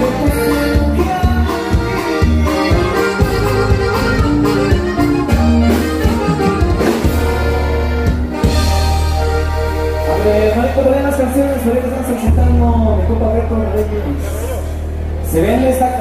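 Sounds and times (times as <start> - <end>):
band playing dance music: 0.0 - 16.0.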